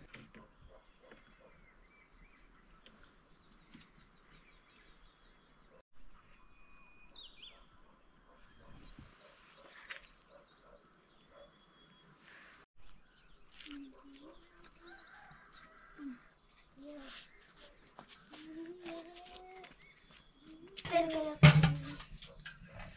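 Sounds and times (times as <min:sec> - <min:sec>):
faint outdoor ambience: 0:00.0 - 0:22.9
small birds chirping: 0:00.1 - 0:21.4.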